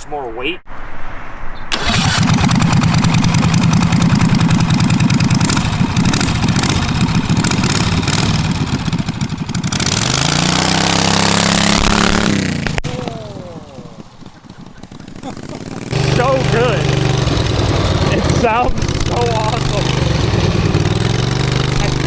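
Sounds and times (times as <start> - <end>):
quad engine at full throttle: 1.7 - 22.0.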